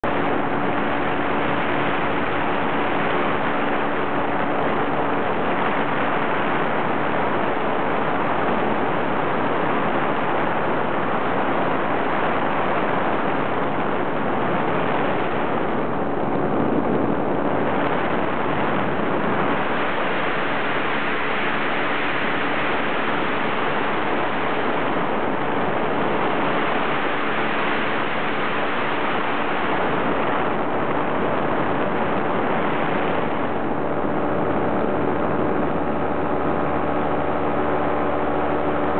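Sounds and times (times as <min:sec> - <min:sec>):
air rushing over microphone: 0:00.0 - 0:38.9
faint drone: 0:00.0 - 0:38.9.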